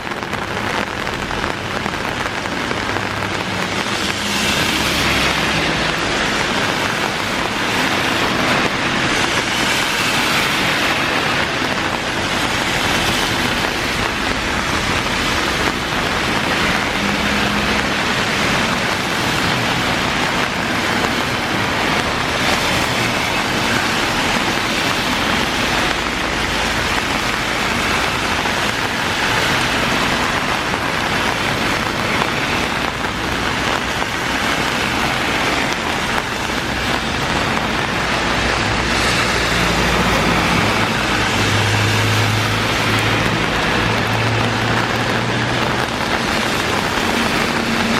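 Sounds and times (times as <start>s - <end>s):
cars passing on wet road: 0.0s - 47.9s
heavy rain falling: 0.0s - 47.9s.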